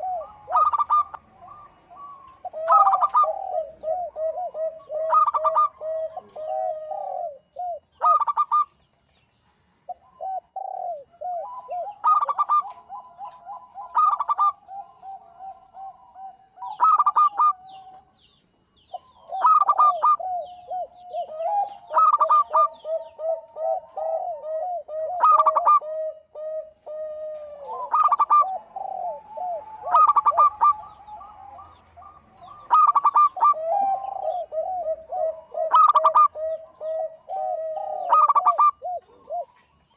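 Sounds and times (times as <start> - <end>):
doves cooing: 0.0 - 8.8, 9.9 - 39.9.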